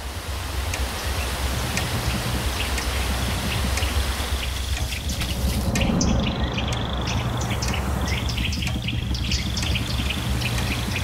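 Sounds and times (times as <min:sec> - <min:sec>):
birds chirping in trills: 0:00.6 - 0:11.0.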